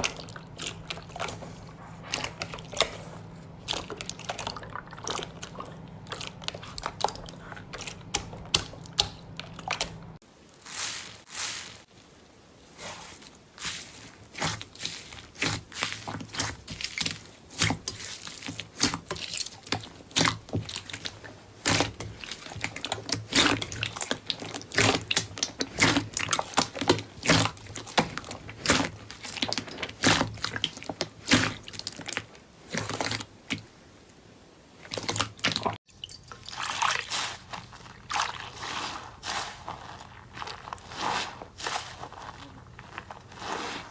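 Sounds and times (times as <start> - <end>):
slime squelching and popping: 0.0 - 12.0, 12.7 - 34.1, 34.8 - 43.9.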